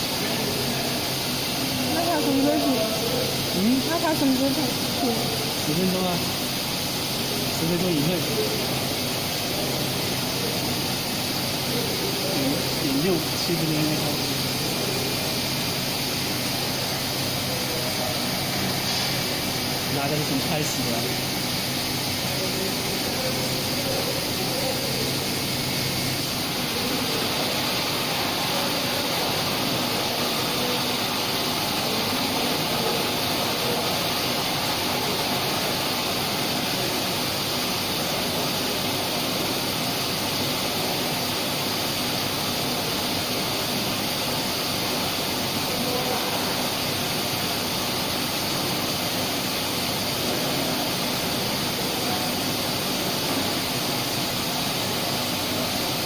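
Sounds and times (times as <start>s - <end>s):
oil coolant spraying: 0.0s - 56.0s.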